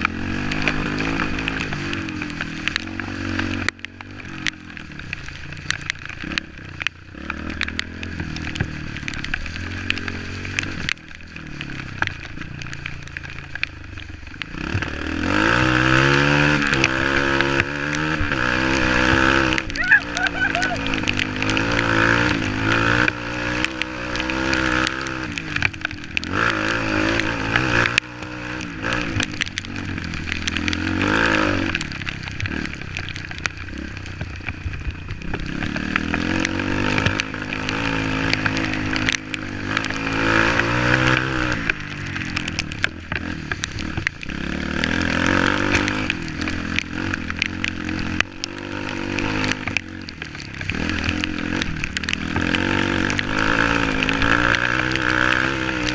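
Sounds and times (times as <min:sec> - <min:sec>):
off-road motorcycle engine revving: 0:00.0 - 0:55.9.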